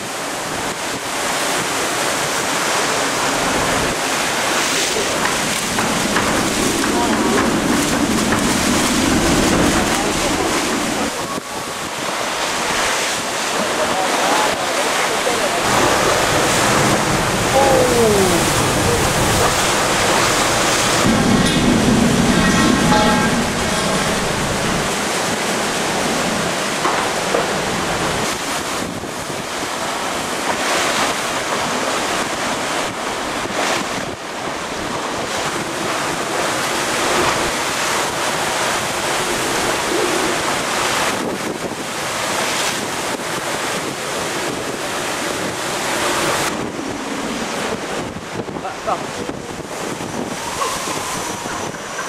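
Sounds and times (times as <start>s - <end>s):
driving rain: 0.0s - 52.0s
waves rushing: 0.0s - 52.0s
wind buffeting microphone: 0.0s - 52.0s.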